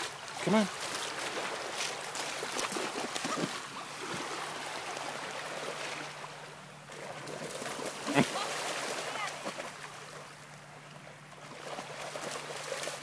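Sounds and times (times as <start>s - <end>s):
seawater splashing at shoreline: 0.0s - 13.0s.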